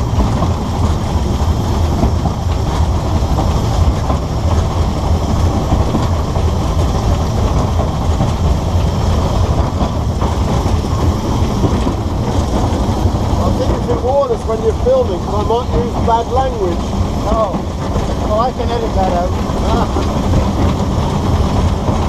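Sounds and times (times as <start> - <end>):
steam locomotive running: 0.0 - 22.0.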